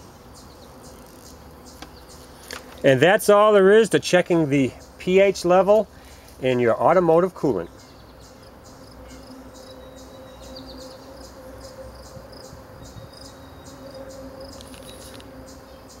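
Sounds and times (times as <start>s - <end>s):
faint steady hum: 0.0s - 16.0s
insects chirping: 0.0s - 16.0s.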